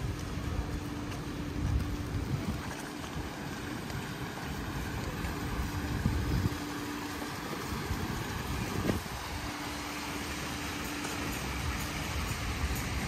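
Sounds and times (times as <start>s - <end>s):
faint steady hum: 0.0s - 13.0s
low uneven street rumble: 0.0s - 13.0s.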